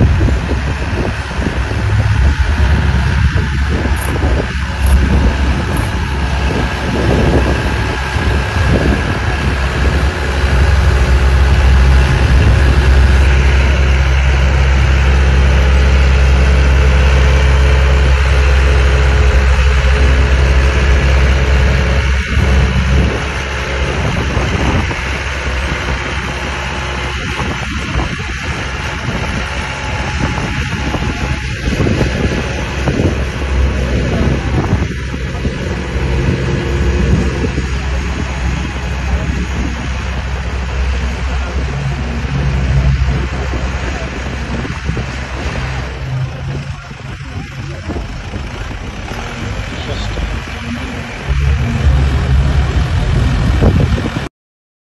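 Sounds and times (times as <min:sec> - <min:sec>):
diesel tractor engine under load: 0:00.0 - 0:54.3.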